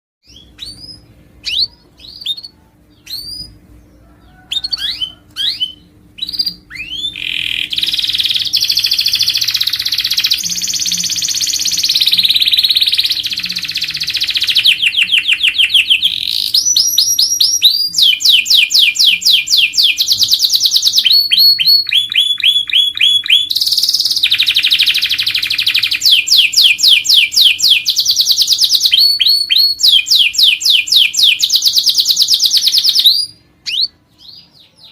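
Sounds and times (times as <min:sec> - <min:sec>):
canary chirps: 0:00.2 - 0:34.9
canary singing trills: 0:00.2 - 0:34.9.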